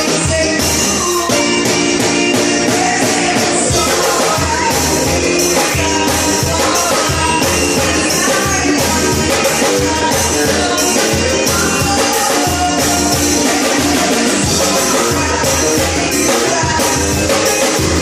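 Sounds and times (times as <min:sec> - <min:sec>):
dance music with singing: 0:00.0 - 0:18.0.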